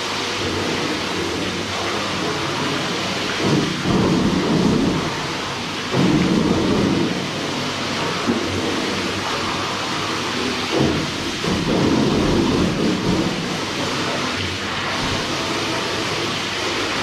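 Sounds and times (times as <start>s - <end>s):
hose water spraying in tank: 0.0s - 17.0s.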